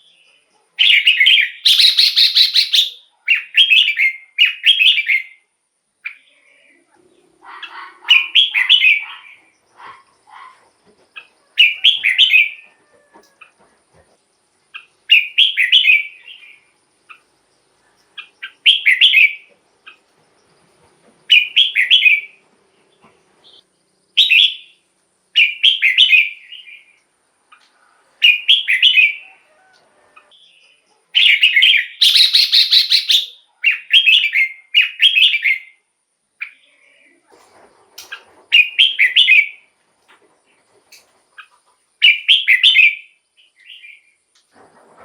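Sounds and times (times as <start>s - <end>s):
bird singing warbled phrases: 0.0s - 12.6s, 14.7s - 20.1s, 21.3s - 29.4s, 30.3s - 37.3s, 38.0s - 39.7s, 41.4s - 44.2s.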